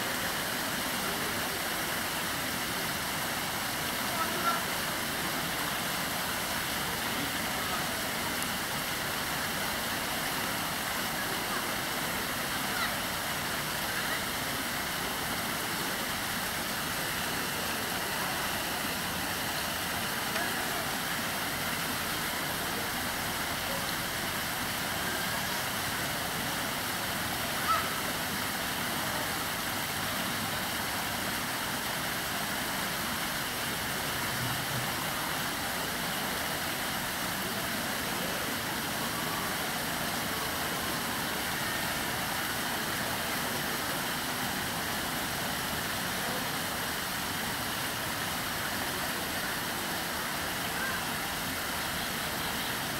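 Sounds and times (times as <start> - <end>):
water spilling down stone tiers: 0.0 - 52.9.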